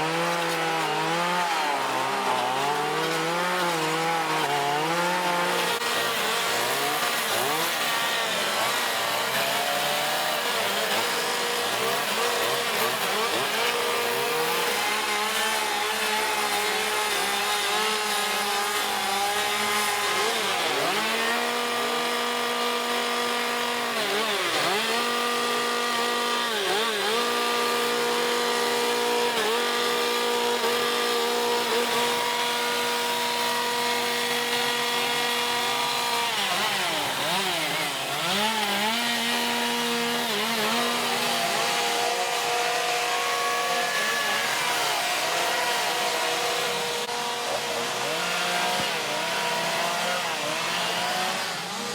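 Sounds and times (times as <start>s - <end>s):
chainsaws cutting wood: 0.0s - 51.9s.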